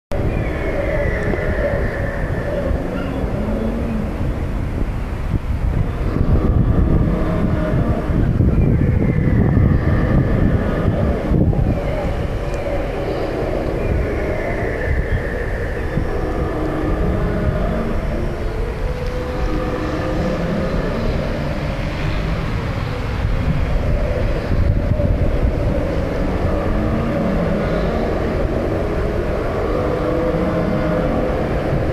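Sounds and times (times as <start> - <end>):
deep rumbling dinosaur growl: 0.1 - 31.9.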